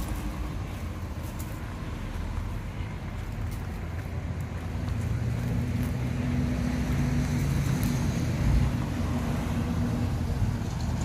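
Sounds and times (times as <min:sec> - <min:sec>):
dump truck diesel engine: 0:00.0 - 0:11.0.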